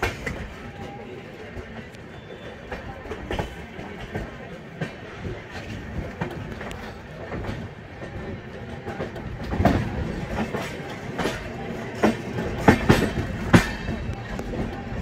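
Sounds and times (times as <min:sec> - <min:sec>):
train wheels rumbling on track: 0:00.0 - 0:15.0
wheels clacking over rail joints: 0:00.0 - 0:15.0.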